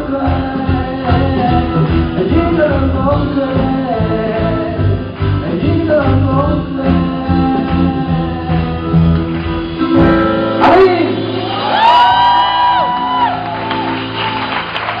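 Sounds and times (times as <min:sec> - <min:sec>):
live pop band music: 0:00.0 - 0:15.0.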